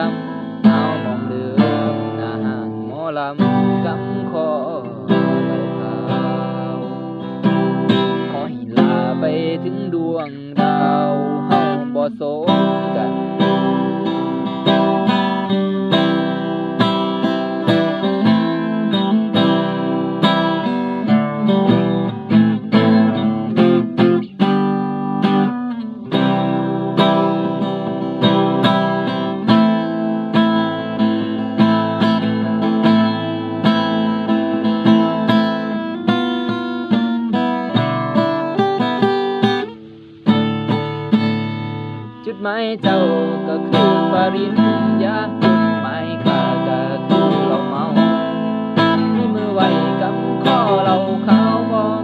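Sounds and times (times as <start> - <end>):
acoustic guitar strumming and picking: 0.0 - 52.0.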